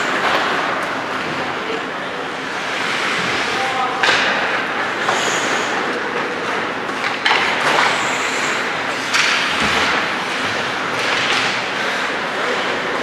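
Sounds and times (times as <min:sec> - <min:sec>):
hockey sticks and puck clacking: 0:00.0 - 0:01.6, 0:02.3 - 0:13.0
skates scraping ice: 0:00.0 - 0:13.0.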